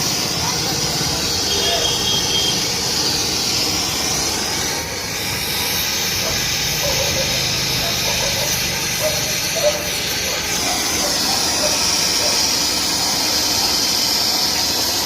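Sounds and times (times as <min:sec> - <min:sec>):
welding torch hissing: 0:00.0 - 0:15.0.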